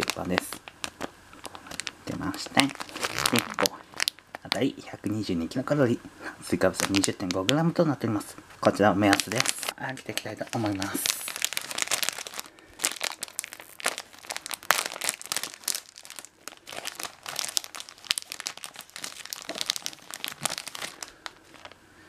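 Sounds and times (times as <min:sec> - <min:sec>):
plastic wrapper crinkling: 0:00.0 - 0:04.8, 0:06.5 - 0:07.8, 0:08.6 - 0:21.8.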